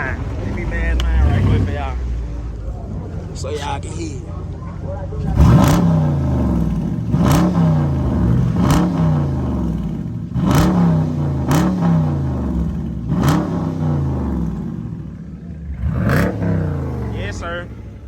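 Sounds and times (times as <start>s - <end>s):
car engine revving: 0.0s - 2.7s, 5.2s - 18.0s.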